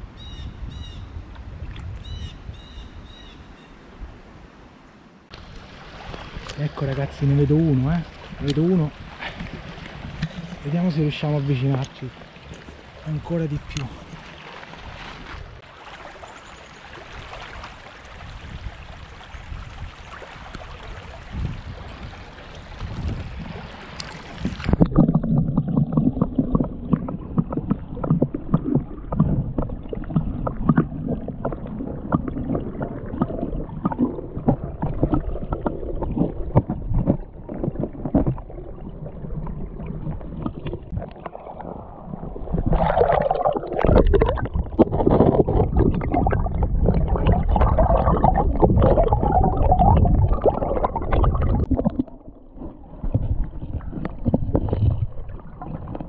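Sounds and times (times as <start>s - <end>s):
creek water sloshing and gurgling: 5.3s - 56.0s.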